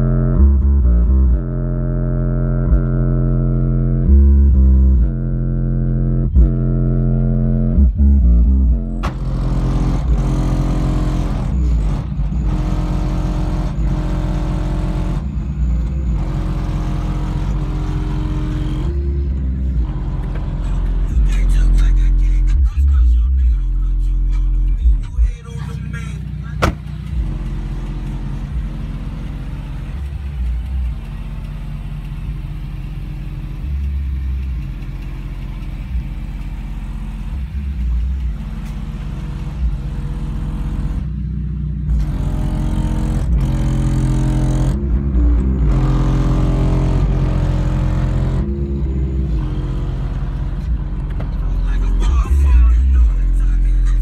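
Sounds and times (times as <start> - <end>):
deep bass hits from subwoofers: 0.0 - 54.0.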